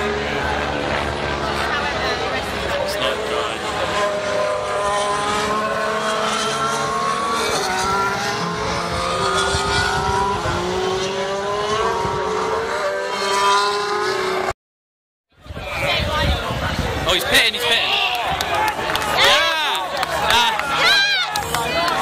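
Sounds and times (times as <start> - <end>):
racing car engines accelerating: 0.0 - 14.5, 15.9 - 22.0.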